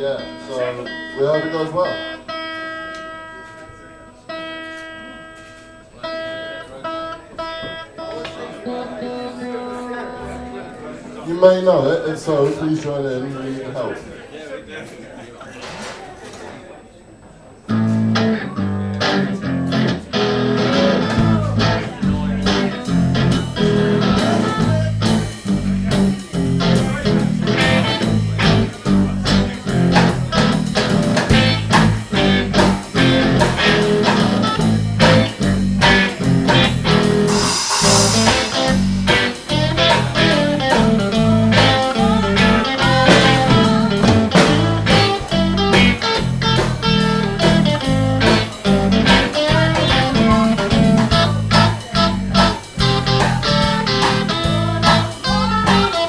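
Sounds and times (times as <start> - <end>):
electric guitar: 0.0 - 11.2, 17.7 - 56.0
live blues band: 0.0 - 11.2, 17.7 - 56.0.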